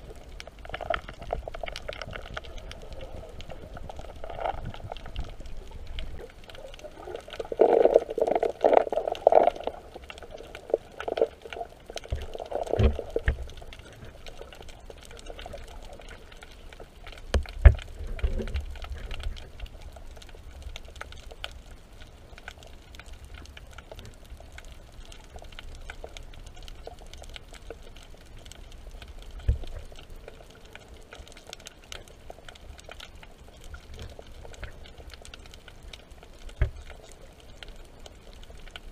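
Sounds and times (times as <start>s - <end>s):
muffled water sloshing and gurgling: 0.0s - 38.9s.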